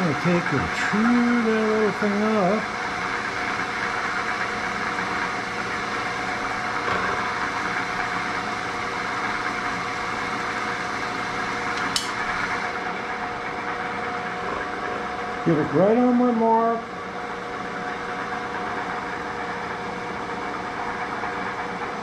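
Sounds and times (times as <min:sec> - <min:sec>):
drill press motor hum: 0:00.0 - 0:22.0.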